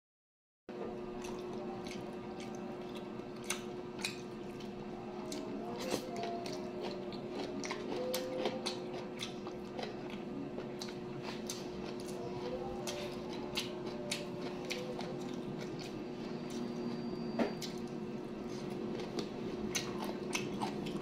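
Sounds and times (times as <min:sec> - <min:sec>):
chewing with wet mouth clicks: 0:01.2 - 0:16.8, 0:17.5 - 0:21.0.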